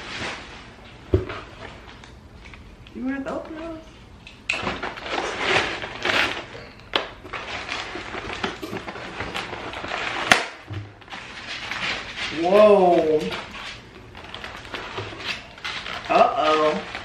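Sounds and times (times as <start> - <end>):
cardboard and packing rustling: 0.0 - 2.0, 4.6 - 17.0.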